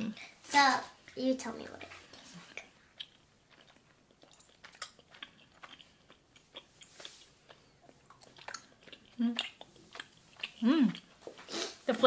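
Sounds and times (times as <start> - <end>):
faint chewing with mouth smacks: 1.0 - 12.0.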